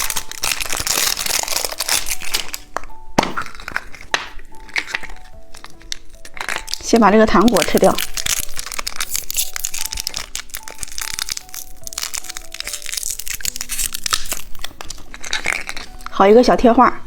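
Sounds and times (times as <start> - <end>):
candy crunching and chewing: 0.0 - 16.4
soft background music: 0.0 - 17.0.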